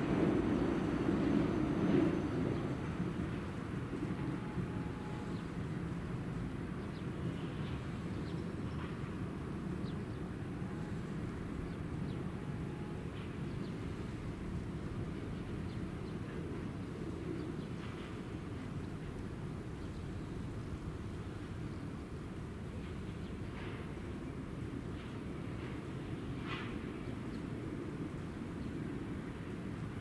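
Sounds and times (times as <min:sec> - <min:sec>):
rail and city traffic rumble: 0:00.0 - 0:30.0.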